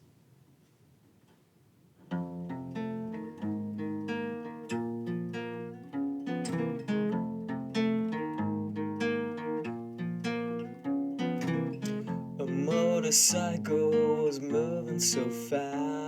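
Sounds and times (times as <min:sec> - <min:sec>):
plucked guitar notes: 0:02.1 - 0:16.0.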